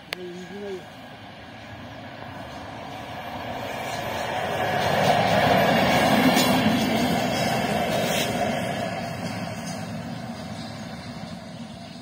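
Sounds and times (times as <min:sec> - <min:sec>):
locomotive rail rumble: 0:00.0 - 0:12.0.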